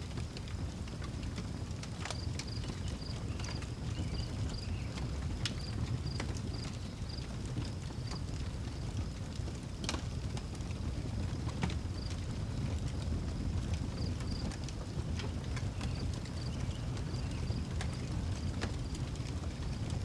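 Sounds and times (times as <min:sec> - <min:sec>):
fire crackling and popping: 0:00.0 - 0:20.0
wood fire roaring: 0:00.0 - 0:20.0.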